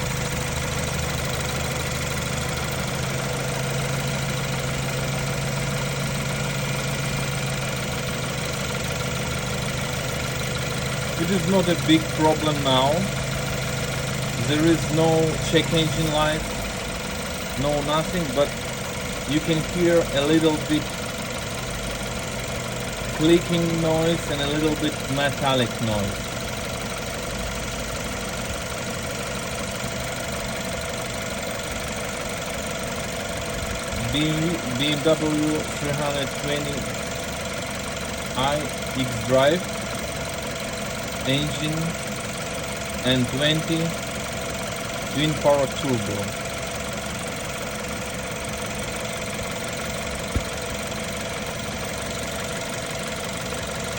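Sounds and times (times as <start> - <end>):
car engine idling: 0.0 - 53.9
engine clicking and metallic noise: 0.0 - 53.9.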